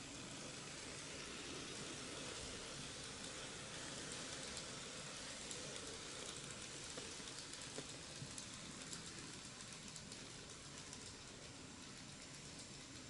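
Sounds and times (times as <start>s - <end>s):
model train rolling hiss: 0.0s - 13.0s
wheels clicking over rail joints: 0.0s - 13.0s.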